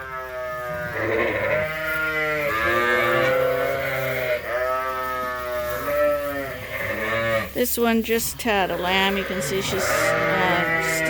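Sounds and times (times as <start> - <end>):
sheep bleating: 0.0 - 7.6, 8.7 - 11.0.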